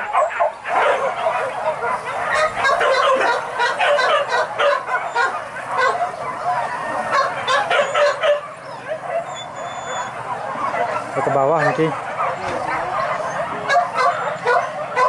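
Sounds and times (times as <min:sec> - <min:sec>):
dogs yelping and baying: 0:00.0 - 0:15.0.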